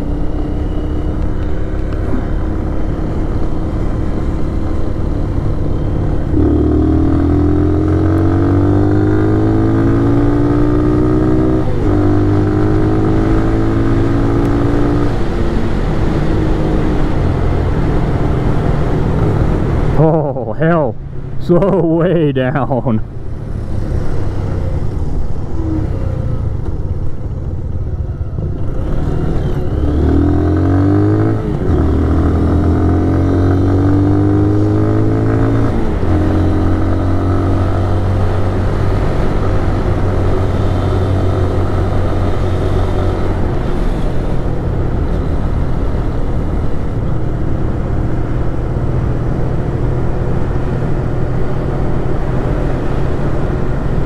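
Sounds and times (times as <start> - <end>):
motorcycle engine accelerating: 0.0 - 20.4, 23.4 - 54.0.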